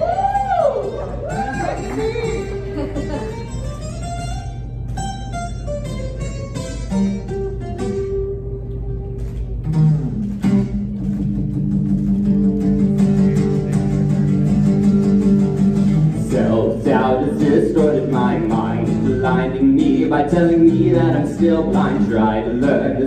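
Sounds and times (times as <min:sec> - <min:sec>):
acoustic guitar chords: 0:00.0 - 0:23.0.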